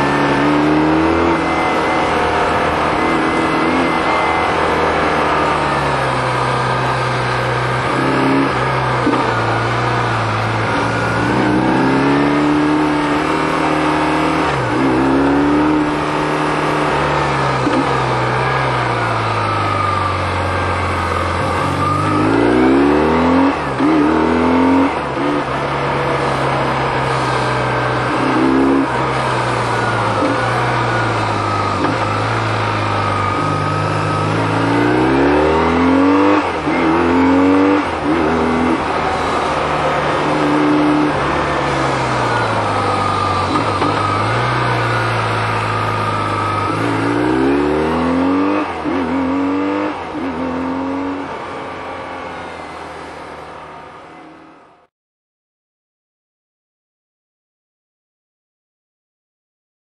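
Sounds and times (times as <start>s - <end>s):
motorcycle engine revving: 0.0s - 54.5s.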